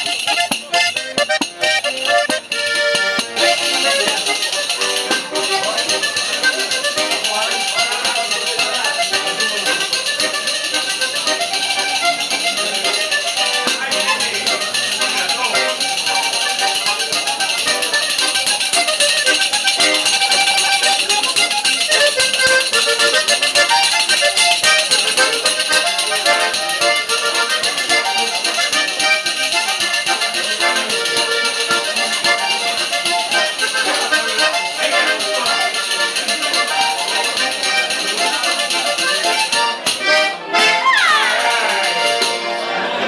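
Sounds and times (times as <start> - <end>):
frame drum with jingles: 0.0 - 40.0
button accordion melody: 0.0 - 43.0.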